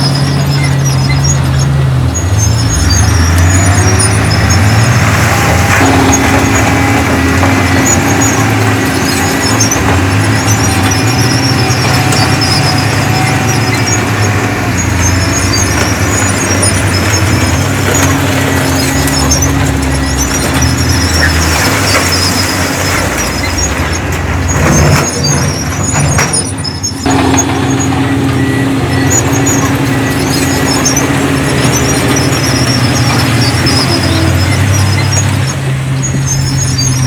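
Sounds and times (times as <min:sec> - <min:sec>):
heavy diesel machinery running: 0:00.0 - 0:37.0
high squeaks: 0:00.0 - 0:37.0.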